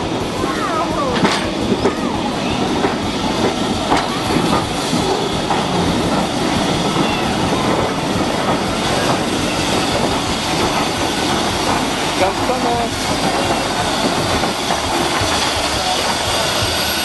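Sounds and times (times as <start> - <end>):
train rumble: 0.0 - 17.0
wheels clicking over rail joints: 1.1 - 17.0.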